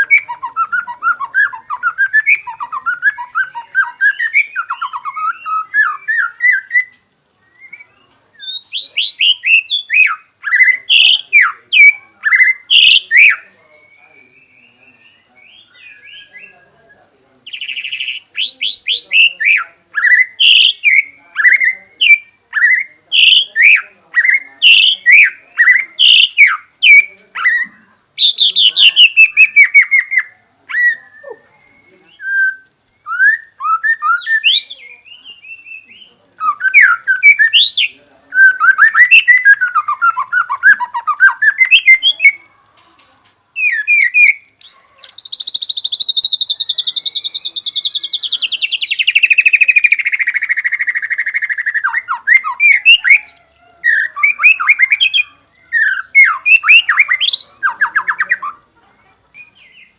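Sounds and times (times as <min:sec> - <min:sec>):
songbird singing varied phrases: 0:00.0 - 0:59.9.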